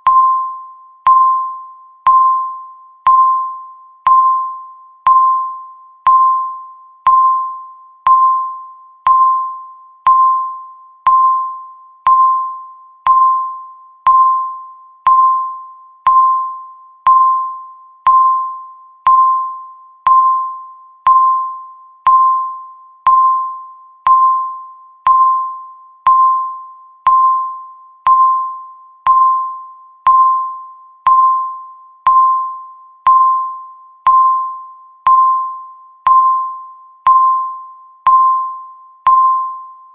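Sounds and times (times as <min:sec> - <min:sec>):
timer ticking ping: 0:00.0 - 0:39.8.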